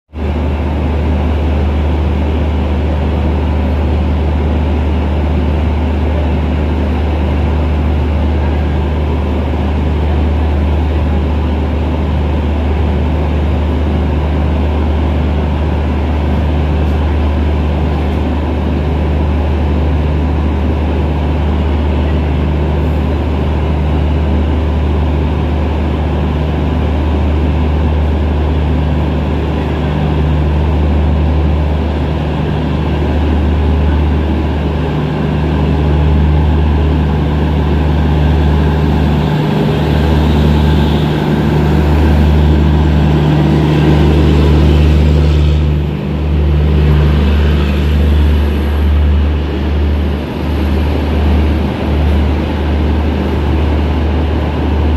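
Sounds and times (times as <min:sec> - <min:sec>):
train engine idling: 0:00.2 - 0:54.9.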